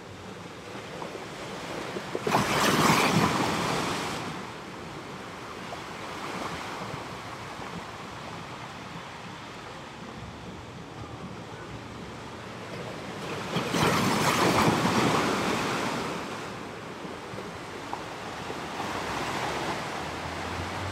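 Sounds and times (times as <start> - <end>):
ocean waves breaking: 0.0 - 20.9.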